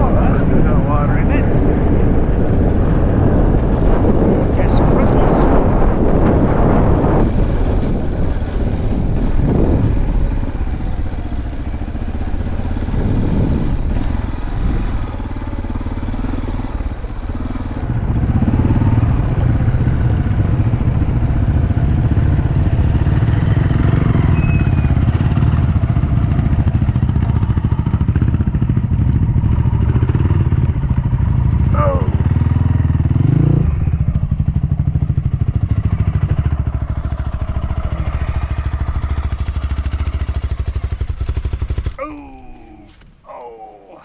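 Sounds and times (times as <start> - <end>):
dirt bike engine running: 0.0 - 42.9.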